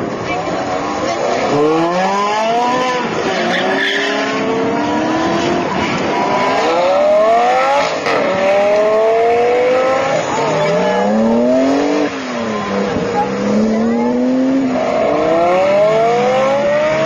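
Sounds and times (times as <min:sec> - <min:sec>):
second sports car engine revving: 0:00.0 - 0:17.0
sports car accelerating through gears: 0:01.2 - 0:17.0.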